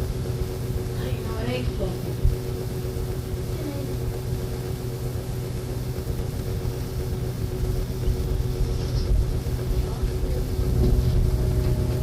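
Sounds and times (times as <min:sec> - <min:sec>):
constant rumble: 0:00.0 - 0:12.0
low electrical hum: 0:00.0 - 0:12.0.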